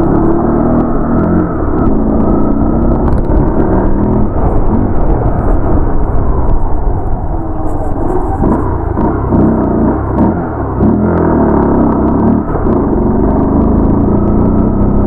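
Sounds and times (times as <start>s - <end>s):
motorcycle engine revving: 0.0s - 15.0s
wind noise on microphone: 0.0s - 15.0s.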